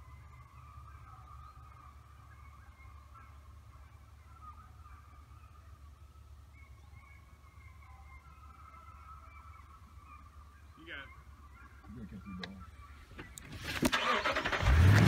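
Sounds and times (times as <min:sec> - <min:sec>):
distant animal calls: 0:00.0 - 0:14.8.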